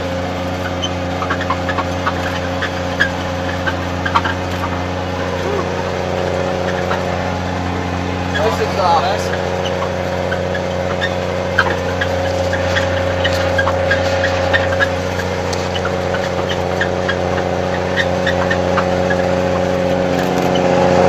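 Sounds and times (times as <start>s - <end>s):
snowcat engine running: 0.0s - 21.0s.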